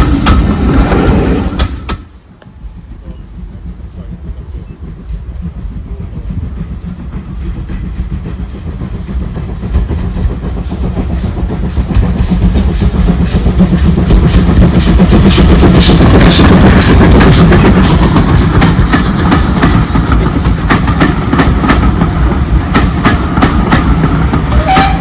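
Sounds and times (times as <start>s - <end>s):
train wheels clicking on rail joints: 0.0s - 25.0s.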